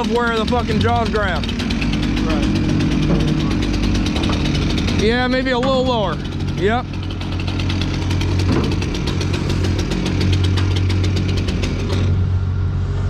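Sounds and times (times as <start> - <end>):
rapid even ticking: 0.0 - 12.0
engine humming: 0.0 - 13.0.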